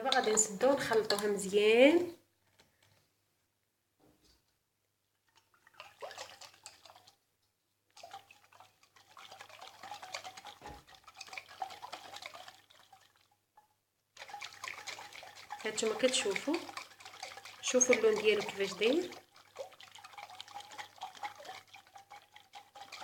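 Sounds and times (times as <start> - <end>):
liquid sloshing in shaken jar: 0.0 - 3.0, 5.1 - 7.2, 7.9 - 13.4, 14.2 - 23.0.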